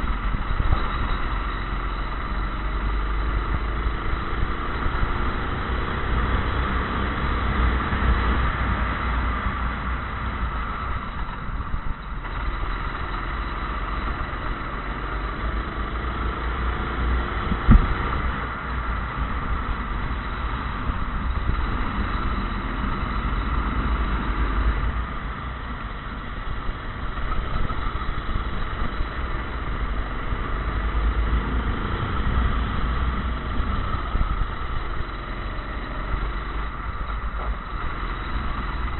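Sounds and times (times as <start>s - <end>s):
heavy low rumble: 0.0s - 13.1s, 13.9s - 38.9s.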